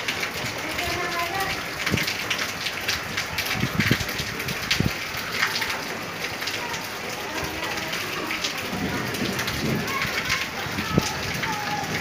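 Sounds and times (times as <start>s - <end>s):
raindrops striking hard surfaces: 0.0s - 12.0s
steady hiss of rain: 0.0s - 12.0s.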